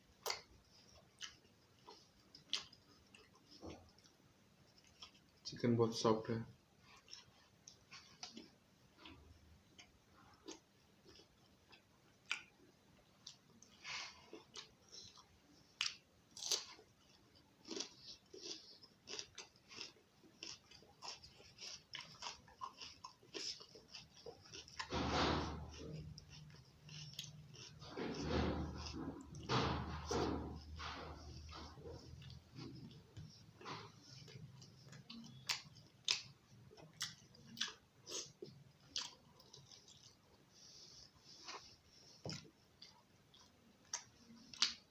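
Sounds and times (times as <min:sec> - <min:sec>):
person chewing and lip smacking: 0:00.2 - 0:05.4, 0:06.9 - 0:12.6, 0:13.2 - 0:24.9, 0:25.7 - 0:27.9, 0:30.5 - 0:44.9.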